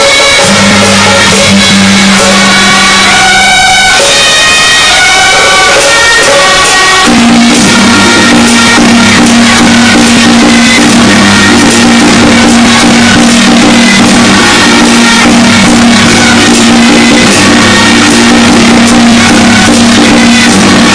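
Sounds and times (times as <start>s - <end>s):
percussion clatter: 0.0s - 20.9s.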